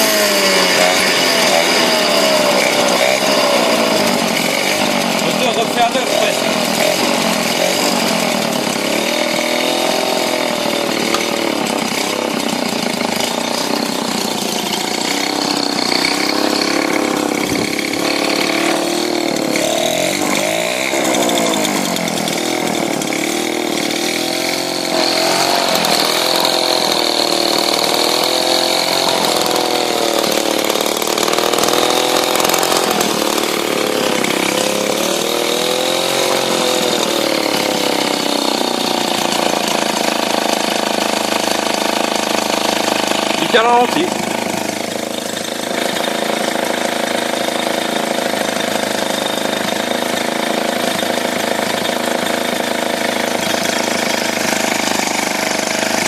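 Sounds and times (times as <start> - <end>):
moped engine idling: 0.0 - 24.7, 25.3 - 56.0.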